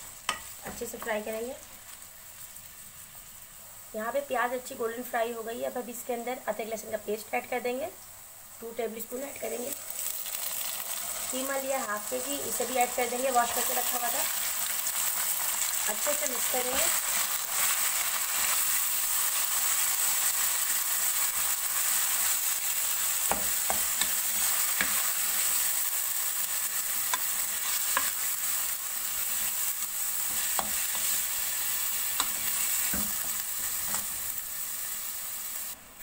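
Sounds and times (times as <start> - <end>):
meat sizzling in oil: 0.0 - 35.8.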